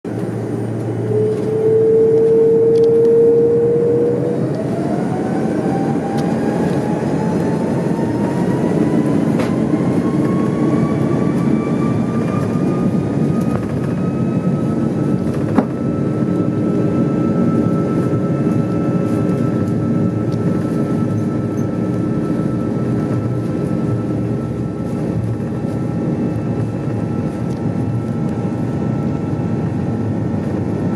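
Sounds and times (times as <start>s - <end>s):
jet engines spooling up: 0.1s - 30.9s.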